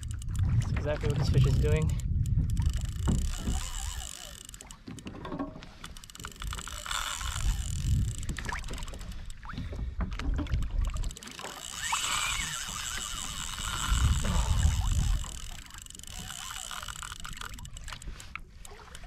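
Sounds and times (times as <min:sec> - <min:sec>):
wind buffeting microphone: 0:00.0 - 0:04.5, 0:05.6 - 0:18.3
fishing gear clicks and knocks: 0:00.0 - 0:19.0
water slapping against hull: 0:00.0 - 0:19.0.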